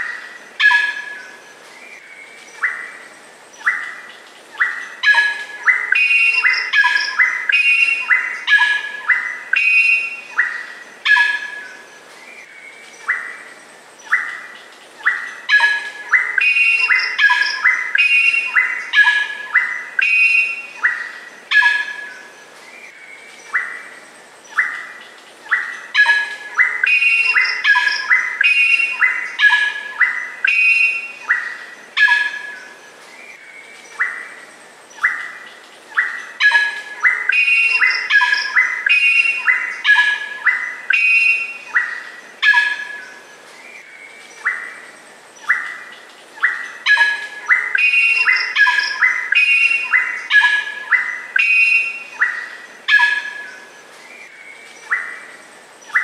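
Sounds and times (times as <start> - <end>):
bird singing loud notes and whistles: 0.0 - 56.0.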